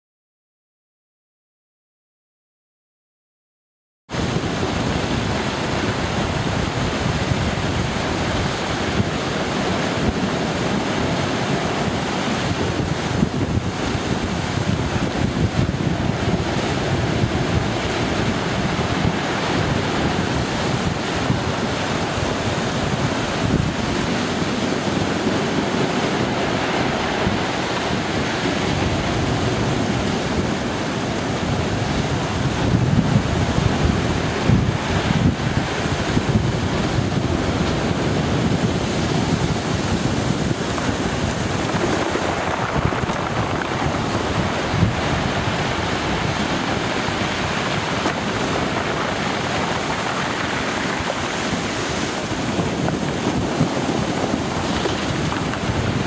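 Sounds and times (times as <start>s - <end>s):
surf crashing on stony shore: 4.1s - 56.0s
wind buffeting microphone: 4.1s - 56.0s.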